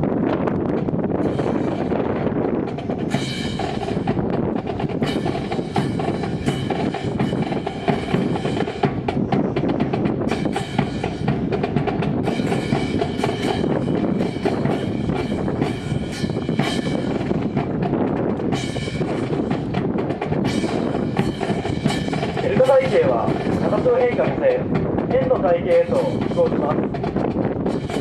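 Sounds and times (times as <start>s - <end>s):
marching drum cadence: 0.0s - 28.0s.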